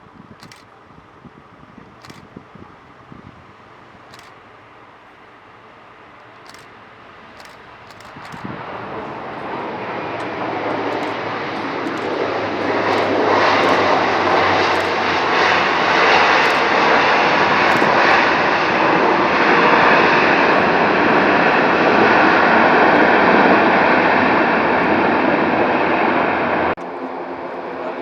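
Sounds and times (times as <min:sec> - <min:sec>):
turboprop aircraft passing: 0:00.0 - 0:28.0.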